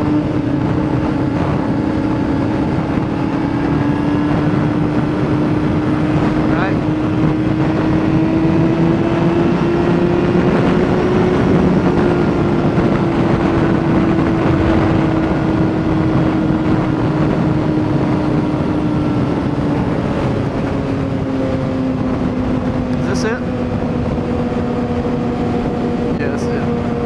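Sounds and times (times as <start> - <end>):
motorcycle engine running high: 0.0 - 27.0
wind rushing over microphone: 0.0 - 27.0.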